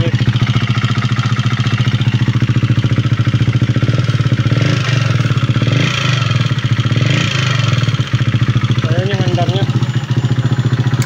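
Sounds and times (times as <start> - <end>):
loud engine ticking: 0.0 - 11.0
motorcycle engine running: 0.0 - 11.0.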